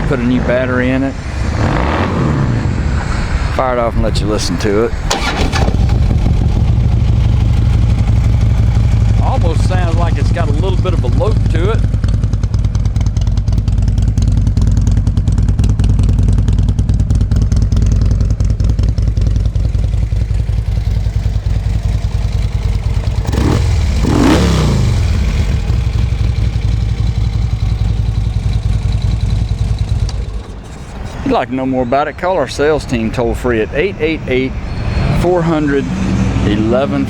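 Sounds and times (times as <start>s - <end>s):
motorcycle engine idling: 3.3s - 34.5s.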